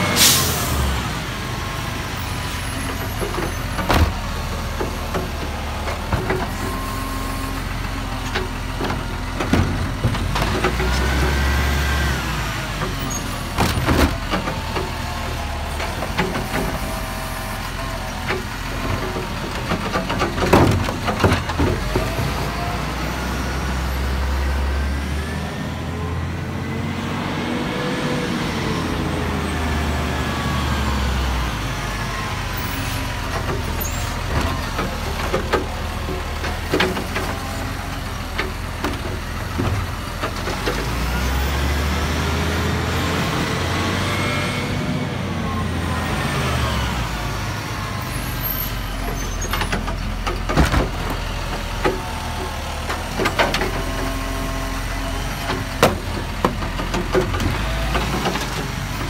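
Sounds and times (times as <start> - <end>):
truck diesel engine revving: 0.0 - 59.0.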